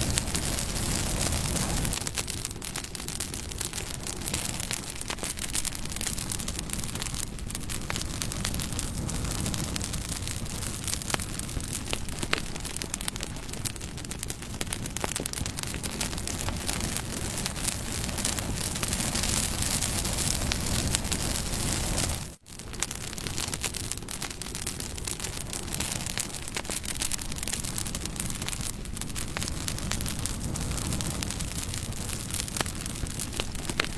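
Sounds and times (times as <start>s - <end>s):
bonfire crackling and popping: 0.0s - 33.9s.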